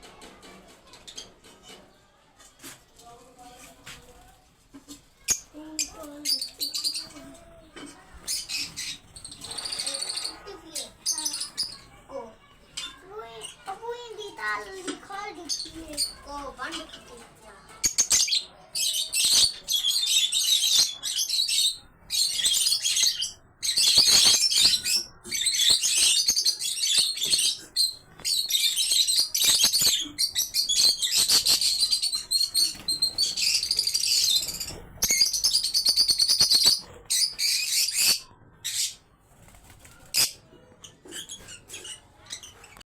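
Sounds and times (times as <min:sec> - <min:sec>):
small birds chirping: 0:03.0 - 0:42.8.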